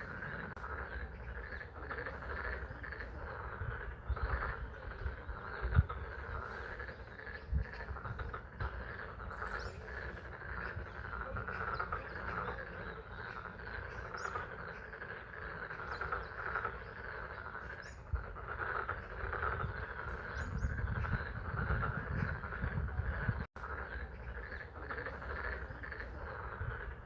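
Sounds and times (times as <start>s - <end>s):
frogs calling: 0.0s - 27.0s.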